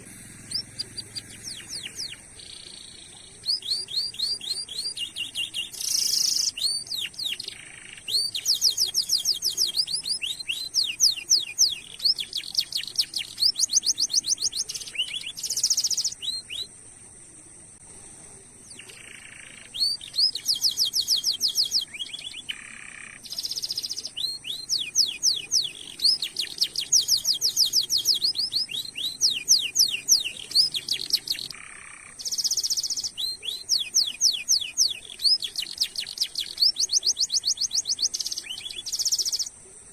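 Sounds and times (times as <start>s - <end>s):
canary singing trills: 0.0s - 16.8s, 18.5s - 39.6s.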